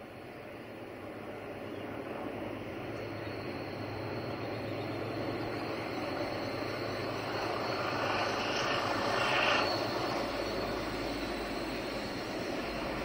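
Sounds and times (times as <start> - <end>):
diesel locomotive engines droning: 0.0 - 13.0.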